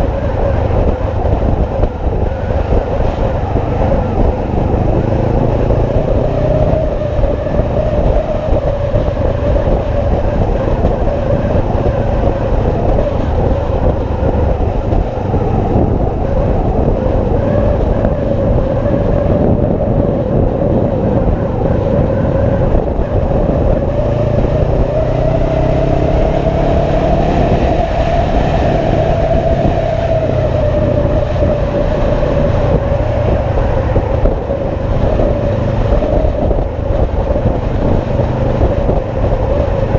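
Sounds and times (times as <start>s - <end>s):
motorcycle engine drone: 0.0s - 39.9s
road noise: 0.0s - 39.9s.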